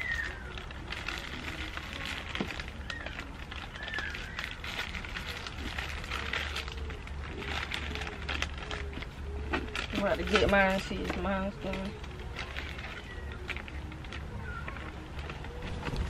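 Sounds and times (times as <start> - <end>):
plastic wrappers crinkling: 0.0 - 16.0.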